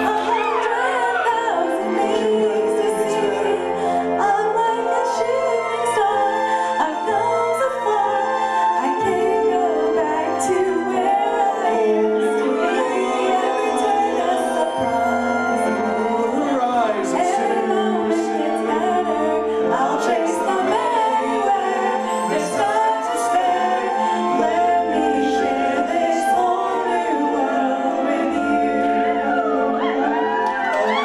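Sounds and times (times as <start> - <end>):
song with singing voice: 0.0 - 31.0.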